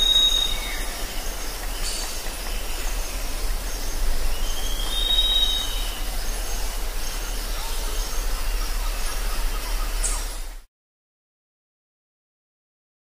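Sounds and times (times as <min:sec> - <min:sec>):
steady forest hiss: 0:00.0 - 0:10.7.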